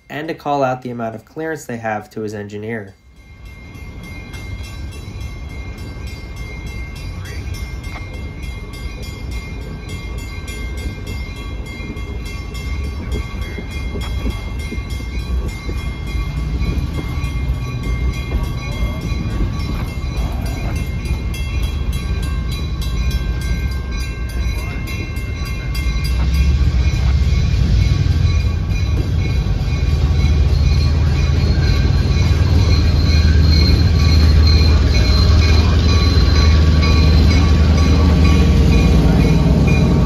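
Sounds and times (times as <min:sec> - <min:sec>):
train wheels rumbling on rails: 0:00.0 - 0:40.0
high-pitched ringing tone: 0:03.0 - 0:40.0.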